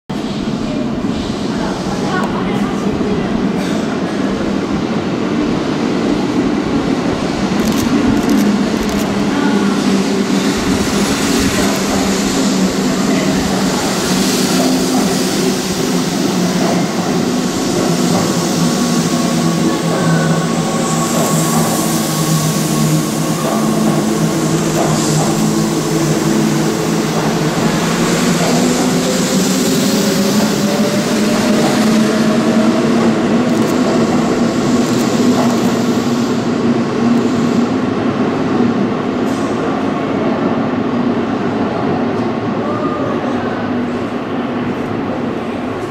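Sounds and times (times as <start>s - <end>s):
train wheels rumbling: 0.1s - 45.9s.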